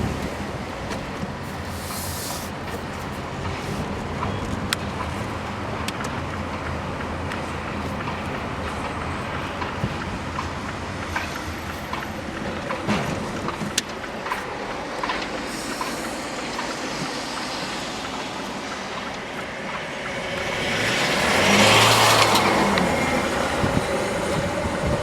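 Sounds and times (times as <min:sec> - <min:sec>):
vehicle rumble: 0:00.0 - 0:25.0.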